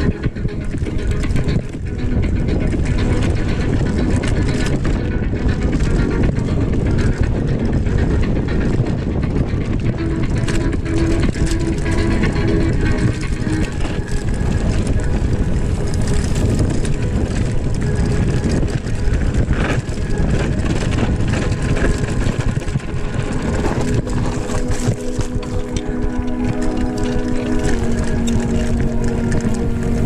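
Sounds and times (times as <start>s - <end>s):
bike clicks and rattles: 0.0s - 30.0s
wind rumbling over microphone: 0.0s - 30.0s.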